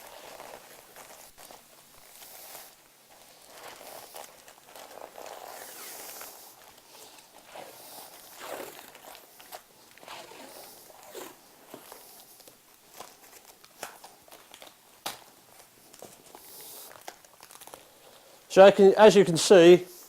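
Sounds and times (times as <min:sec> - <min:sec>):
wrapping paper rustling: 0:00.0 - 0:18.5.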